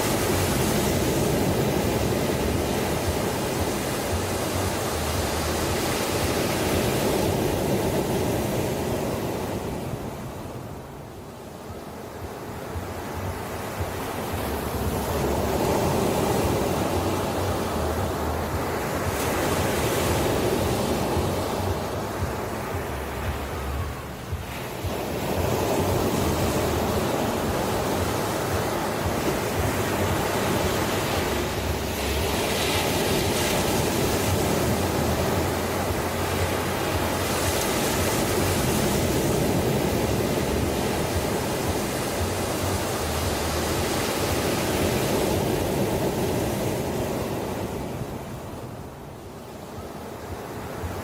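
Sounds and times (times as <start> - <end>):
ocean waves breaking on shore: 0.0 - 51.0.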